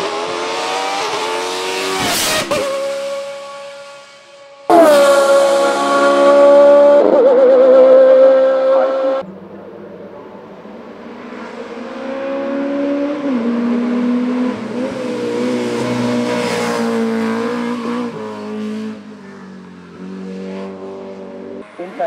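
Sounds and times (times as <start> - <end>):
race car engine at high revs: 0.0 - 9.2, 10.2 - 22.0.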